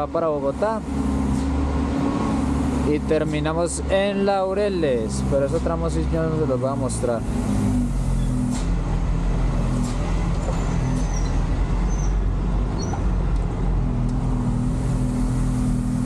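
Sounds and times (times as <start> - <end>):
truck engine from inside cab: 0.0 - 16.0.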